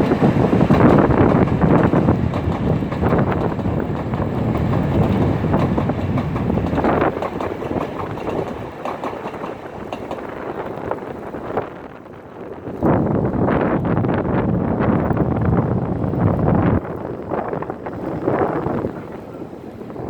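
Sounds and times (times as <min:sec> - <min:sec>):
train rumbling along rails: 0:00.0 - 0:20.0
wind on microphone: 0:00.0 - 0:20.0.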